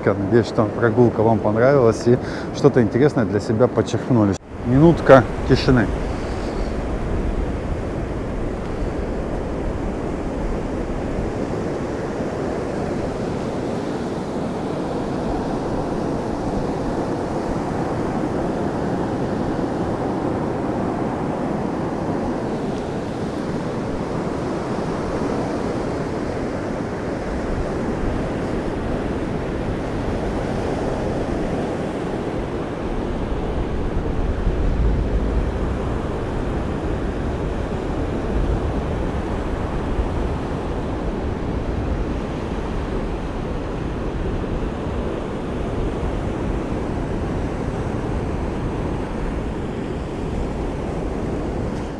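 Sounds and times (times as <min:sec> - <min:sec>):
waves breaking on sand: 0:00.0 - 0:51.9
wind on microphone: 0:04.0 - 0:51.9.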